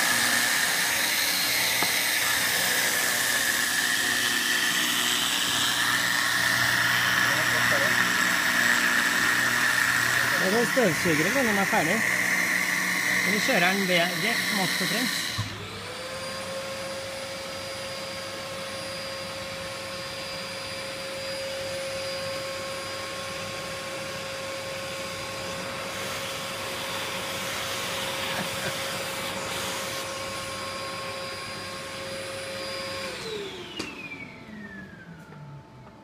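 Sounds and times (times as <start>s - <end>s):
spindle motor high whine: 0.0s - 36.0s.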